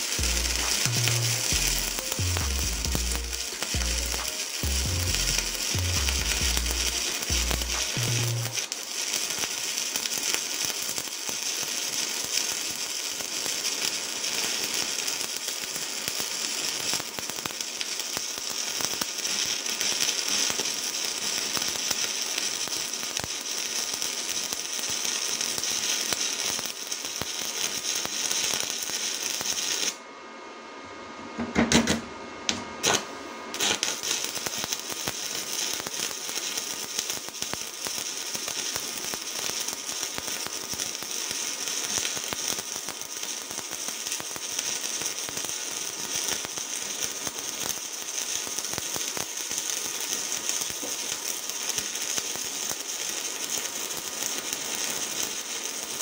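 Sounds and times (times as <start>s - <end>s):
welding arc crackling and sizzling: 0.0s - 30.0s, 31.5s - 56.0s
welding arc sharp pops: 0.0s - 30.0s, 31.4s - 56.0s.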